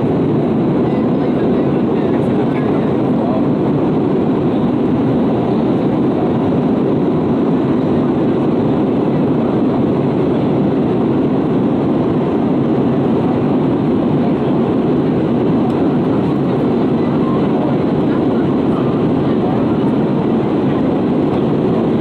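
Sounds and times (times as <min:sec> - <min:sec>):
airliner cabin noise: 0:00.0 - 0:22.0.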